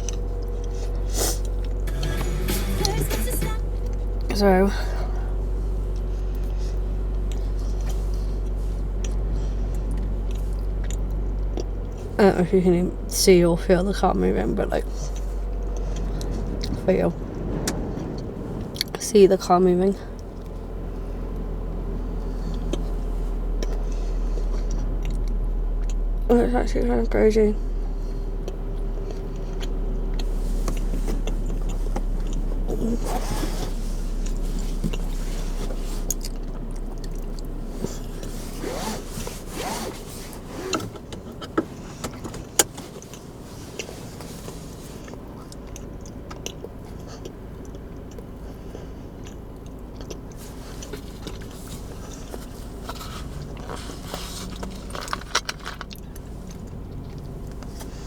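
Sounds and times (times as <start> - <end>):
wind buffeting a car: 0.0 - 1.9, 3.2 - 58.0
things handled in a car: 0.0 - 58.0.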